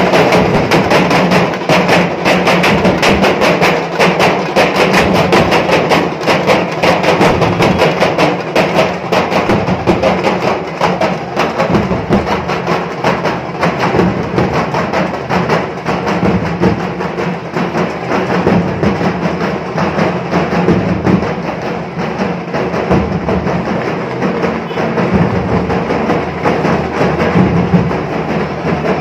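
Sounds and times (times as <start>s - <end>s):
procession drums beaten fast: 0.0s - 29.0s.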